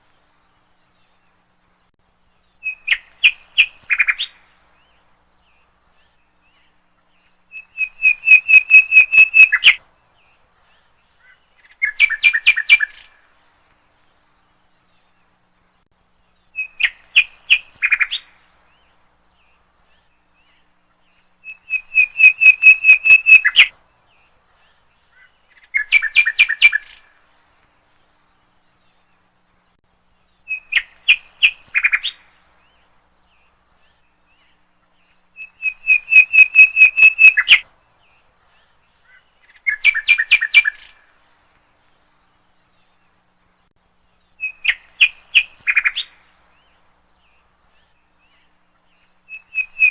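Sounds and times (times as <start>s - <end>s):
songbird chirping: 0.0s - 49.9s.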